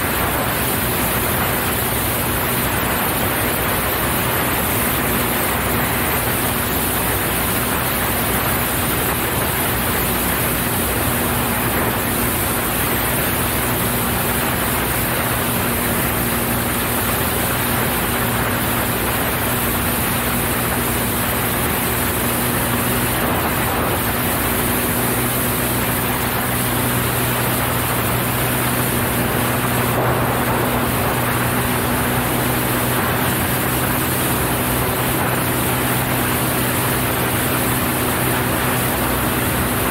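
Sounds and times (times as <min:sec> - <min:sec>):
airflow rush: 0:00.0 - 0:39.9
airplane engine and propeller drone: 0:00.0 - 0:39.9.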